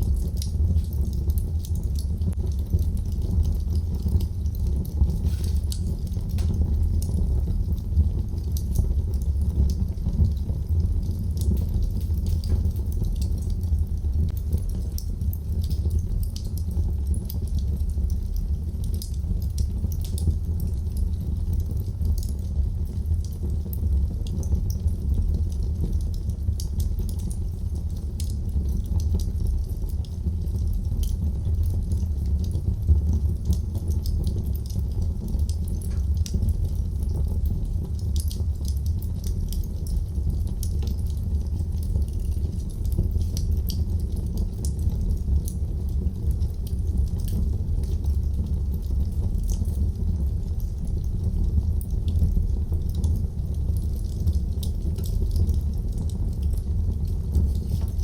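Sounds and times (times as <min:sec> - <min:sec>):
low rumble of flames: 0:00.0 - 0:58.0
wood fire crackles and pops: 0:00.0 - 0:58.0.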